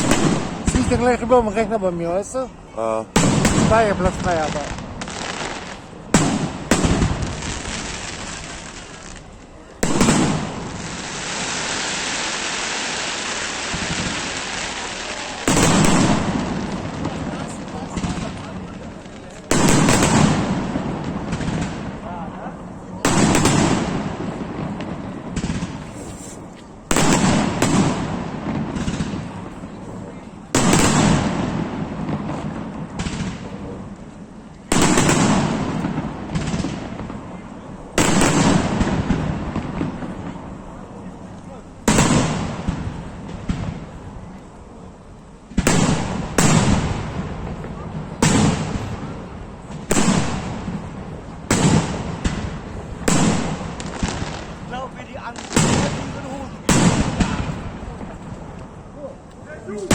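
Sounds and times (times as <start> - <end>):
fireworks booming: 0.0 - 59.9.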